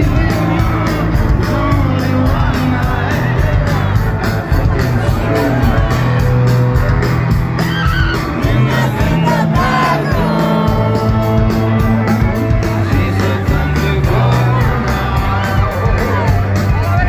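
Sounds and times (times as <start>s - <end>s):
crowd singing and yelling: 0.0s - 17.0s
live rock band playing: 0.0s - 17.0s.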